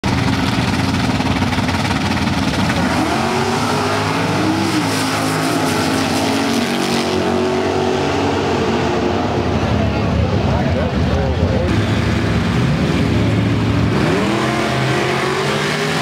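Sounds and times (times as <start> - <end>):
drag car engines rumbling: 0.0 - 16.0.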